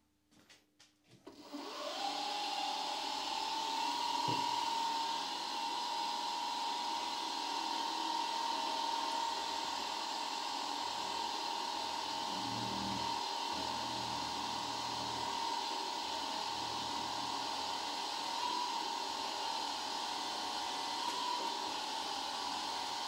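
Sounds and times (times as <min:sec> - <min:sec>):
drill press motor whine: 0:01.3 - 0:23.0.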